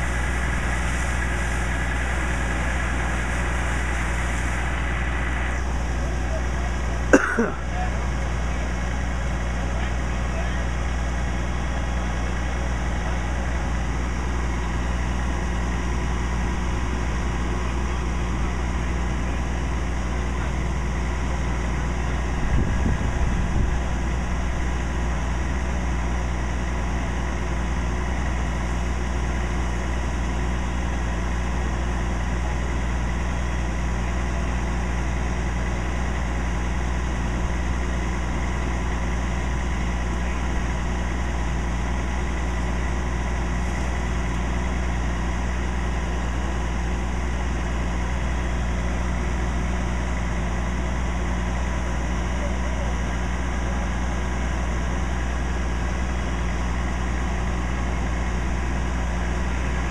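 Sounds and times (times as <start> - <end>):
fire engine idling: 0.0 - 59.9.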